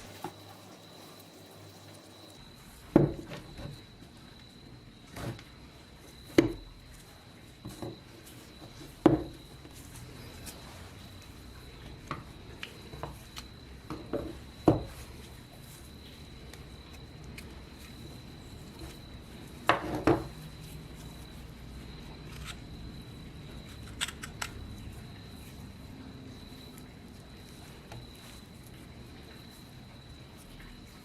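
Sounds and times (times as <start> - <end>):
faint high whine: 0.0 - 31.0.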